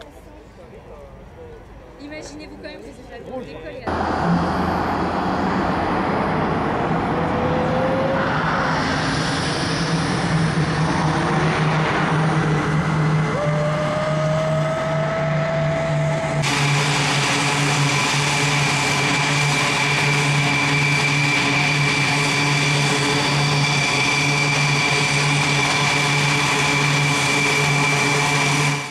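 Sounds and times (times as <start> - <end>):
turboprop engines droning: 0.0 - 28.9.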